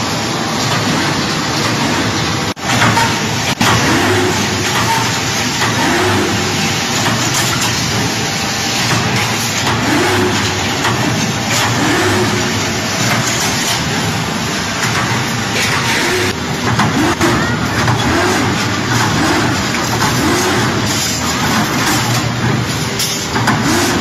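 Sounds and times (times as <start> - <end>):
machine mechanical noise: 0.0 - 24.0.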